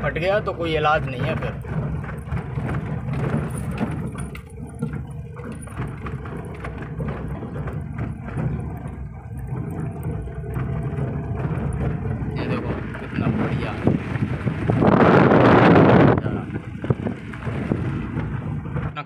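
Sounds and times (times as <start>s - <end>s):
knocks and rattles from bumps: 0.0s - 19.0s
van engine droning: 0.0s - 19.0s.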